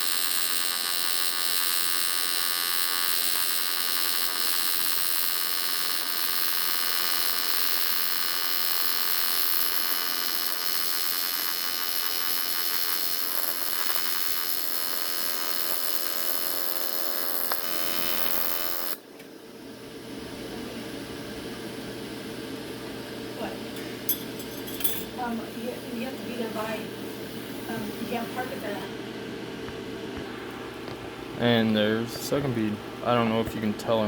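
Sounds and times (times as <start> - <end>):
welding arc buzzing: 0.0 - 34.0.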